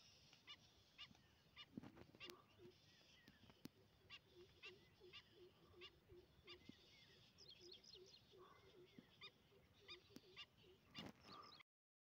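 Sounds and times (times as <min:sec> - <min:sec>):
low bird calls: 0:00.3 - 0:11.6.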